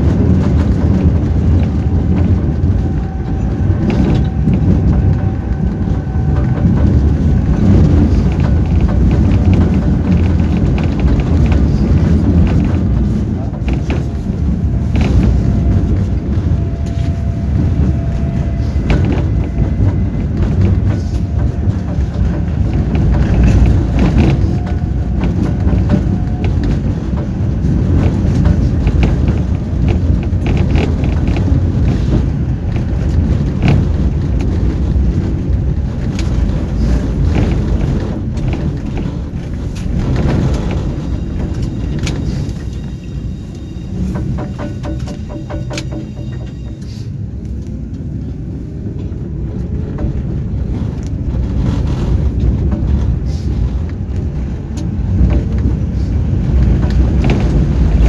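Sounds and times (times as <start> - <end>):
knocks and clatter from rails: 0.0 - 58.0
tram rumbling along track: 0.0 - 58.0.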